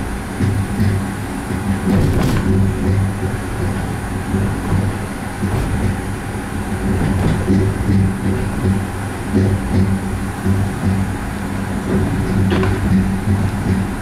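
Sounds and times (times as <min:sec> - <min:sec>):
gondola running rumble: 0:00.0 - 0:14.0.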